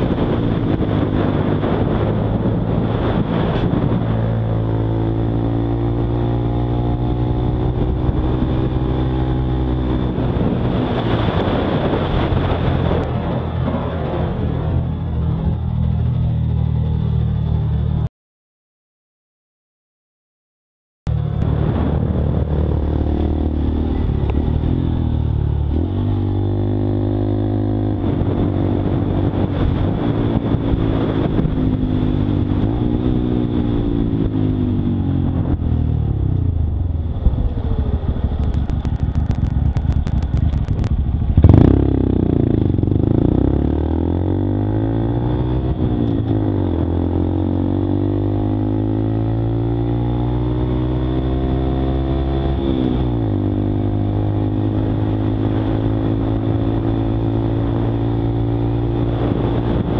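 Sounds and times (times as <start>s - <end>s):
motorcycle engine revving: 0.0s - 18.1s, 21.1s - 59.9s.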